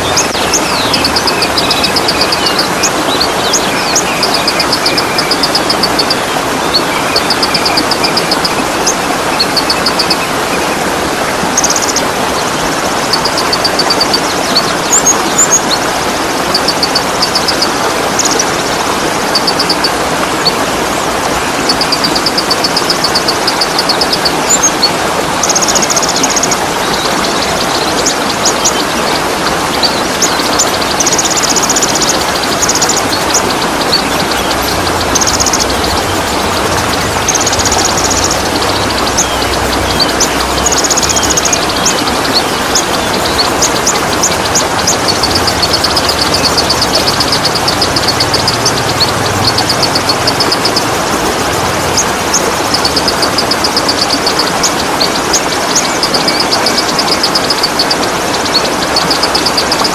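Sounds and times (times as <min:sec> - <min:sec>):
bird chirps: 0:00.0 - 0:20.6, 0:21.2 - 0:59.9
songbirds trilling: 0:00.0 - 0:59.9
waterfall rushing: 0:00.0 - 0:59.9.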